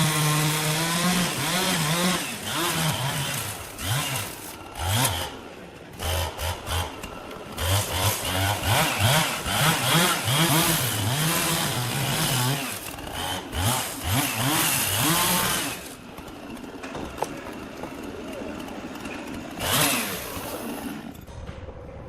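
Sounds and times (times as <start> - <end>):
chainsaw engine revving: 0.0 - 21.3.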